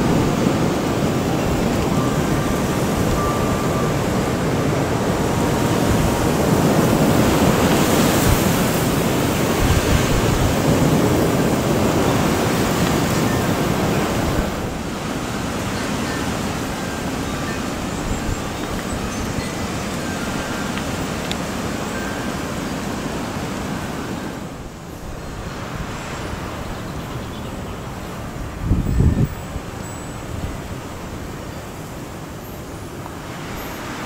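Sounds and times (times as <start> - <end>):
wind gusting through trees: 0.0 - 34.0
wind rumbling on microphone: 0.0 - 34.0.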